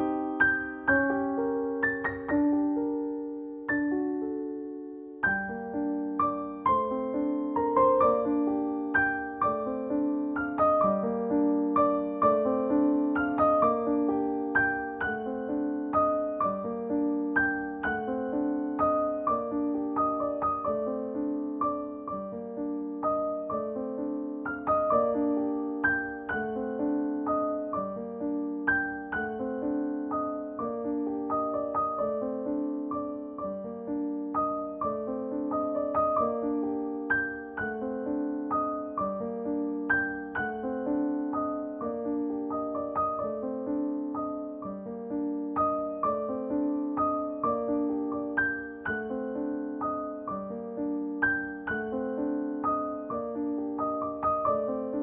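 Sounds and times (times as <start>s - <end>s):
piano notes and chords: 0.0s - 55.0s.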